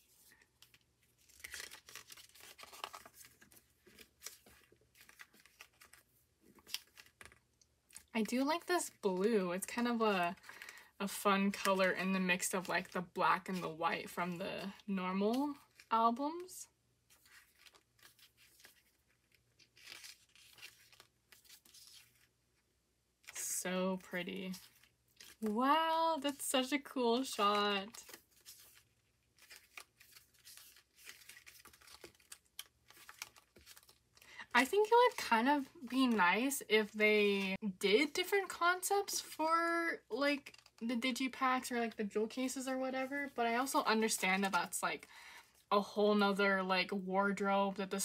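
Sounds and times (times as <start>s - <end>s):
paper and card rustling: 0.0s - 22.3s, 23.2s - 45.7s.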